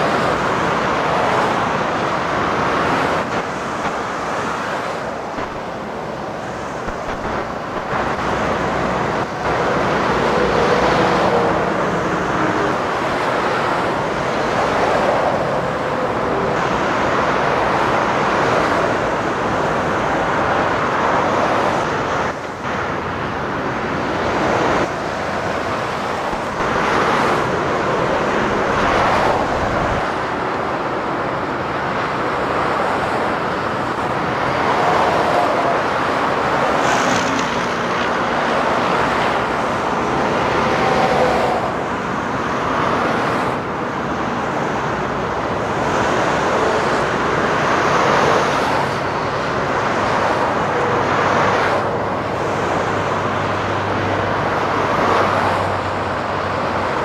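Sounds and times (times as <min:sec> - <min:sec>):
motorway traffic passing at speed: 0:00.0 - 0:57.0.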